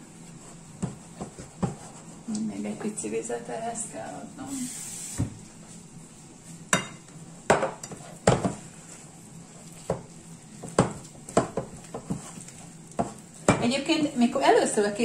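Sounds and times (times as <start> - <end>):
soft stirring of dough: 0.0 - 15.0.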